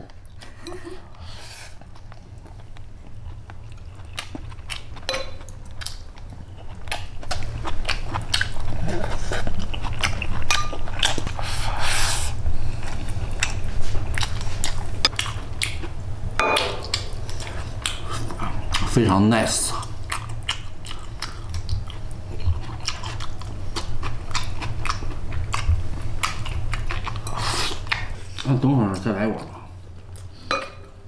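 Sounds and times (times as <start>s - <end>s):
steady low hum: 0.0s - 31.0s
close-up chewing: 1.7s - 16.1s, 17.2s - 19.0s, 19.7s - 28.6s.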